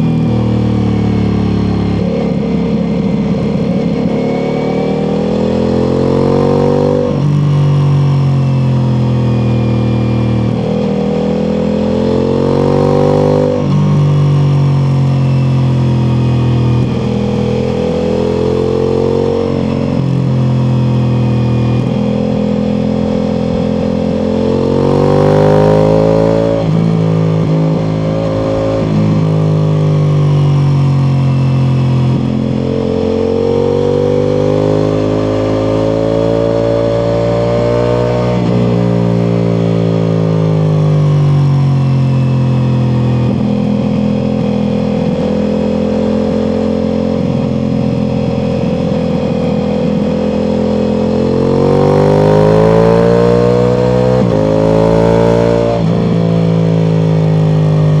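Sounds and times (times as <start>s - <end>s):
motorcycle engine accelerating hard: 0.0s - 58.0s.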